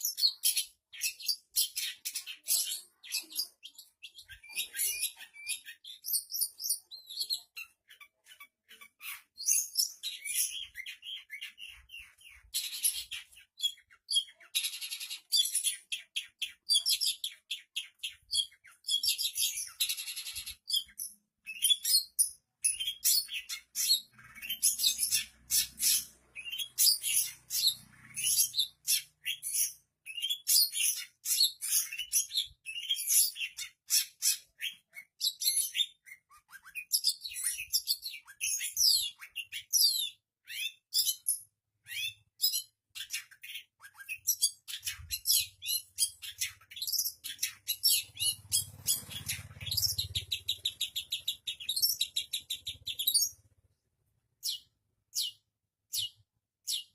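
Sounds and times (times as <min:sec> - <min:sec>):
bird singing: 0:00.0 - 0:53.6
rapid bird trill: 0:00.0 - 0:53.6.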